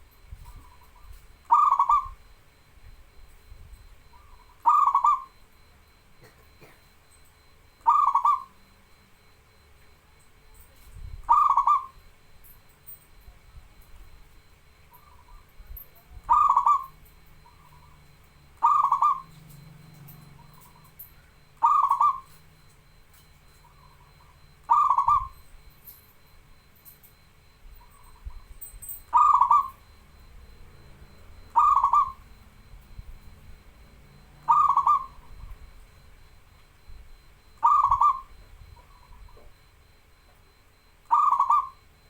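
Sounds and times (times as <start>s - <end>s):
dove cooing: 0.0s - 9.6s, 10.4s - 12.6s, 13.2s - 26.0s, 26.6s - 42.0s.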